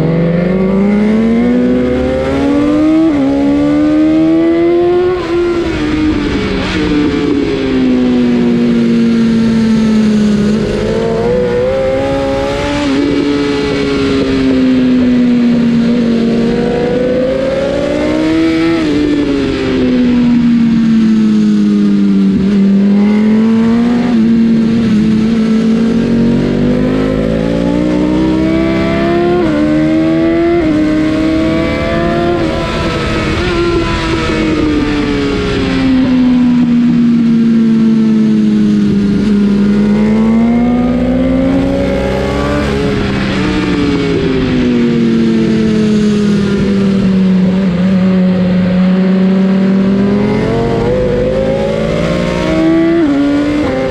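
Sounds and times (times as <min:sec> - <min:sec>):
motorcycle engine at racing speed: 0:00.0 - 0:53.9.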